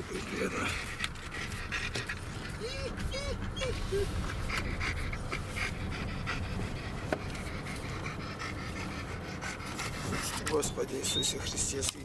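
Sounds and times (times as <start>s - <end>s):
car rumble: 0.0s - 12.0s
dog panting: 0.0s - 12.0s.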